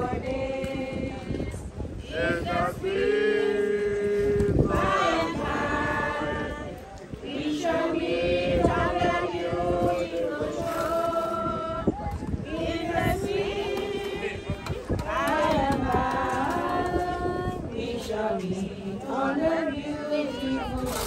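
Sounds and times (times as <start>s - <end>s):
group singing a hymn unaccompanied: 0.0s - 21.0s.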